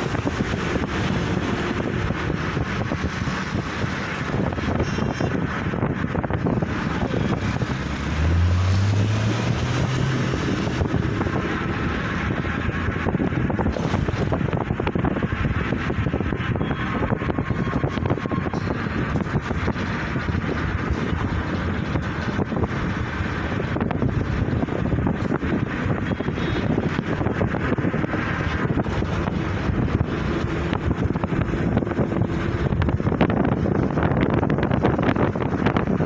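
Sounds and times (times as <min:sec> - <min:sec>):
road traffic noise: 0:00.0 - 0:36.0
vehicle engine accelerating: 0:00.0 - 0:36.0
wind buffeting microphone: 0:00.0 - 0:36.0.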